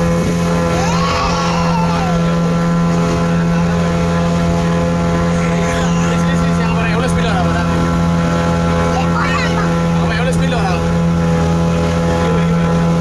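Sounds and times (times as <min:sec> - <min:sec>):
motor boat engine running: 0:00.0 - 0:13.0.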